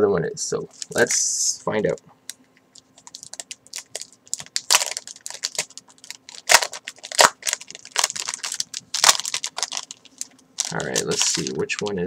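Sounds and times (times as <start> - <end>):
plastic wrapper crinkling and tearing: 0.7 - 1.2, 2.7 - 12.0.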